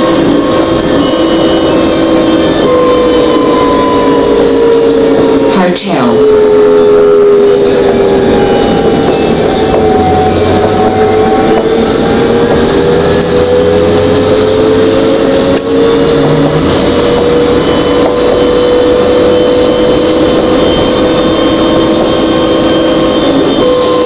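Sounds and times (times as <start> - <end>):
electric motor whining: 0.0 - 24.0.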